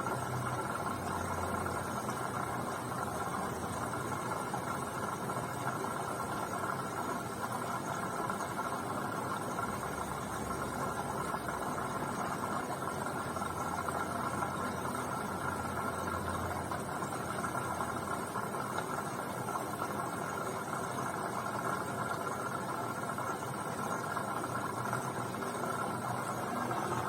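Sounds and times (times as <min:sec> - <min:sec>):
washing machine running: 0:00.0 - 0:27.0.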